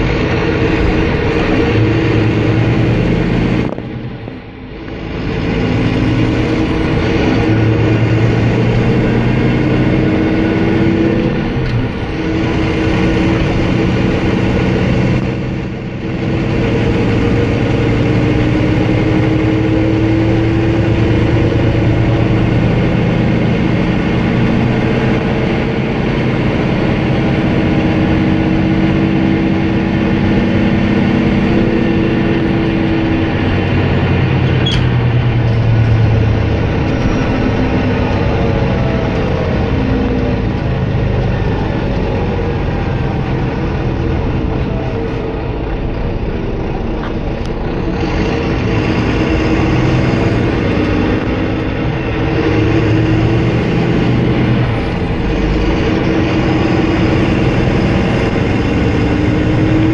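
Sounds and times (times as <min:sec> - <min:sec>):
coach diesel engine running: 0:00.0 - 0:59.9
road and body rumble: 0:00.0 - 0:59.9.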